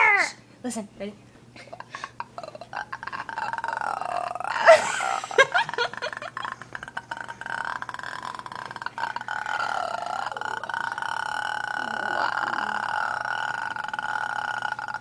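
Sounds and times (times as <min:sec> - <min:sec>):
girl making rattly mouth noise: 0:01.7 - 0:15.0.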